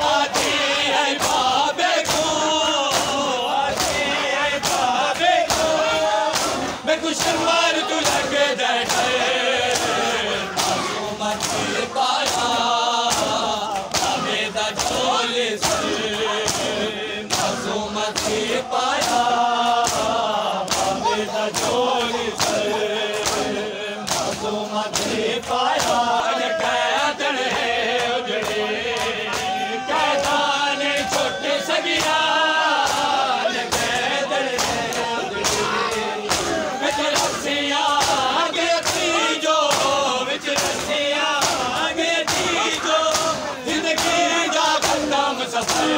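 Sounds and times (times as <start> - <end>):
hands slapping bare chests: 0.0 - 45.9
men chanting a lament: 0.0 - 45.9.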